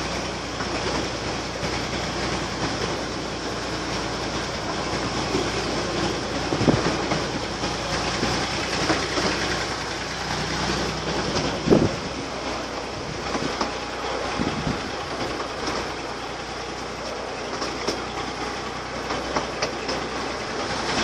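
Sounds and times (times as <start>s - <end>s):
miniature railway carriage running: 0.0s - 21.0s
wheels clicking over rails: 0.0s - 21.0s.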